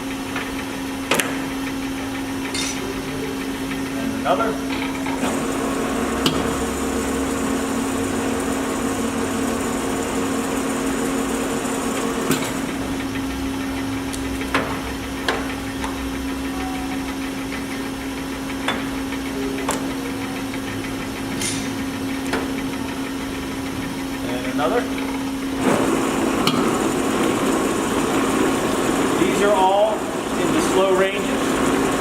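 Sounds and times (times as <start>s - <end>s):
gear whine: 0.0s - 32.0s
lathe mechanical hum: 0.0s - 32.0s.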